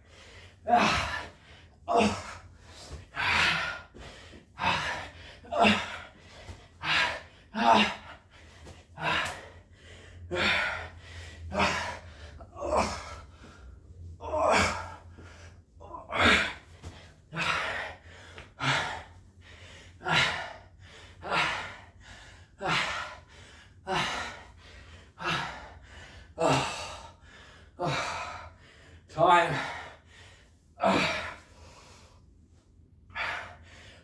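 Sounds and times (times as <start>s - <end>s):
man breathing hard: 0.0s - 34.0s.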